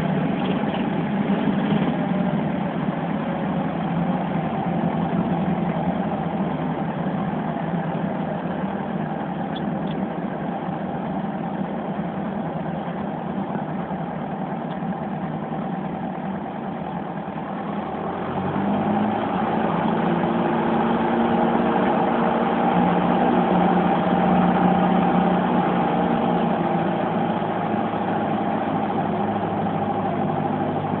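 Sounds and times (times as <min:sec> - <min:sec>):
light aircraft engine and propeller: 0:00.0 - 0:31.0
wind and rolling noise: 0:00.0 - 0:31.0.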